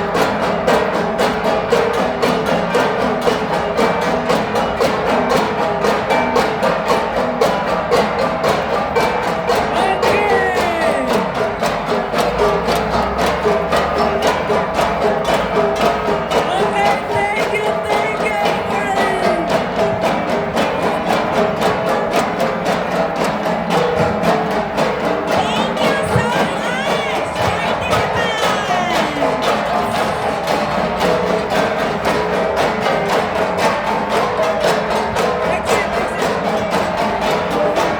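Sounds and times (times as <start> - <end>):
flat gongs struck in rhythm: 0.0 - 37.9.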